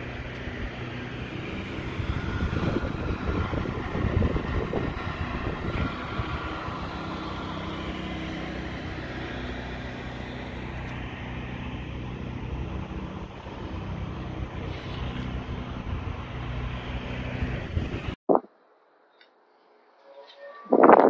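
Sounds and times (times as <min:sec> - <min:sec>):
engine humming steadily: 0:00.0 - 0:18.2.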